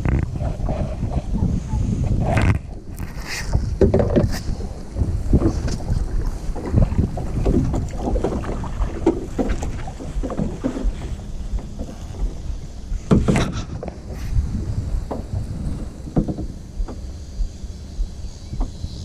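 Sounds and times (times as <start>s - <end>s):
wind on microphone: 0.0s - 19.0s
paddle strokes splashing water: 2.0s - 18.8s.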